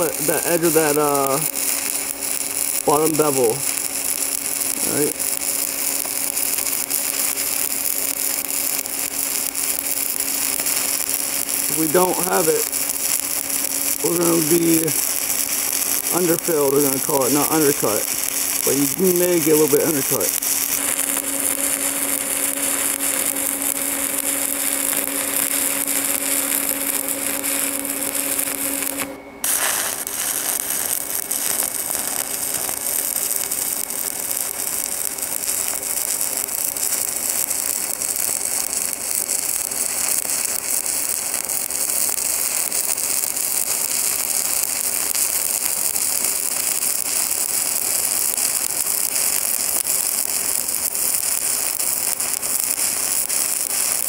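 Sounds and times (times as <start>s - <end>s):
welding arc crackling: 0.0s - 54.0s.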